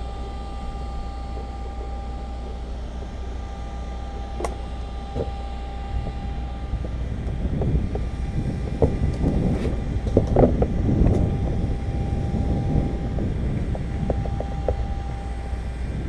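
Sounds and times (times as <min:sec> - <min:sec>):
faint whine: 0:00.0 - 0:16.0
low mechanical hum: 0:00.0 - 0:16.0.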